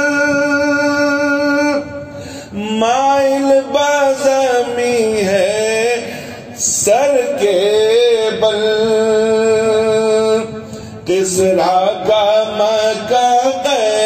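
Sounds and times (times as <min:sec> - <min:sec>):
man singing into microphone: 0:00.0 - 0:14.0.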